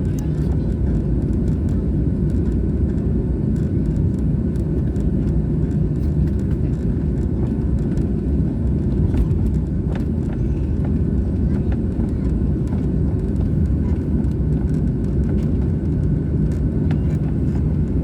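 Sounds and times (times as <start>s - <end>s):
jet engines and airflow in cabin: 0.0s - 18.0s.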